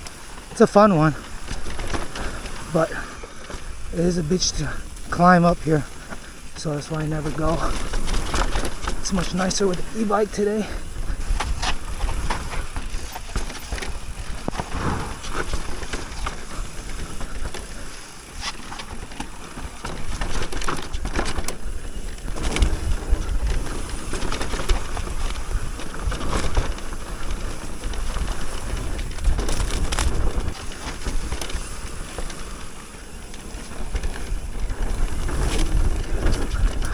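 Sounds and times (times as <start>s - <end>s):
bike clicks and rattles: 0.0s - 36.9s
wind rumble on microphone: 1.2s - 36.9s.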